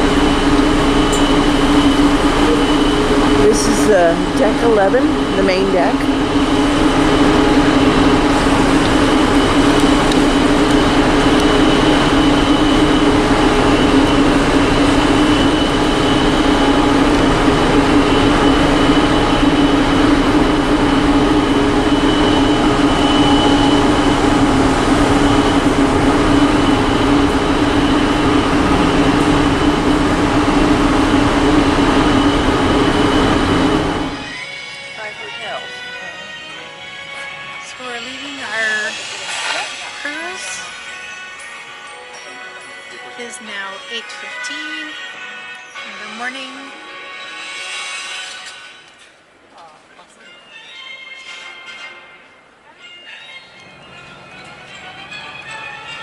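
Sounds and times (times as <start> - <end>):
faint high whine: 0.0 - 50.6
ventilation fans droning: 0.0 - 56.0.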